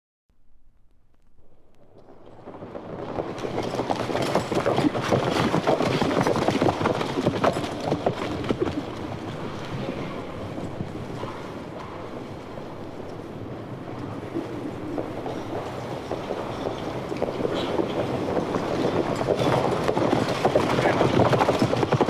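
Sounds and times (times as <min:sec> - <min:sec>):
galloping horse hoofbeats: 0:00.5 - 0:22.0.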